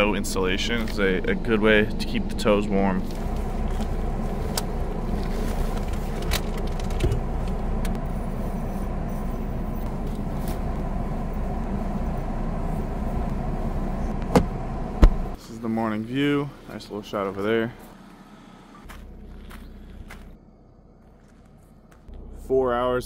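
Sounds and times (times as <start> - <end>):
car idling rumble: 0.0 - 23.0.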